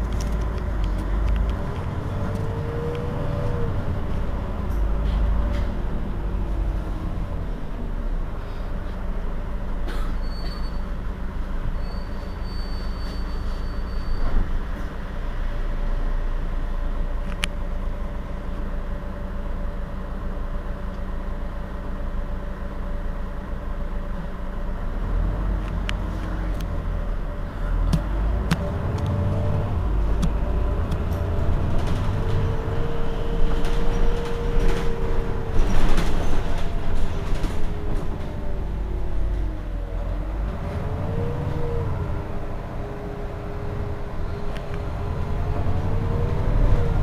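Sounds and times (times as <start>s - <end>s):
bus engine idling: 0.0s - 47.0s.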